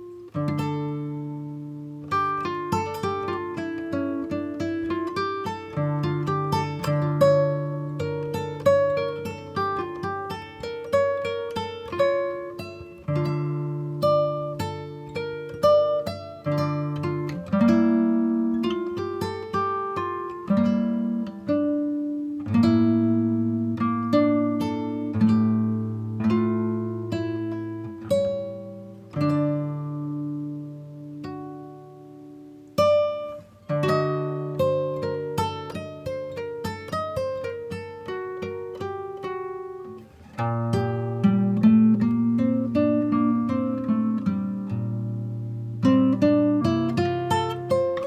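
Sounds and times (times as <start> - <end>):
acoustic guitar melody: 0.0 - 48.0.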